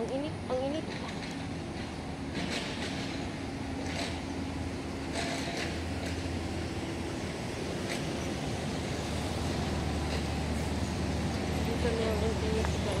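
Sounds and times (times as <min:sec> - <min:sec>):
train rumbling on viaduct: 0:00.0 - 0:13.0.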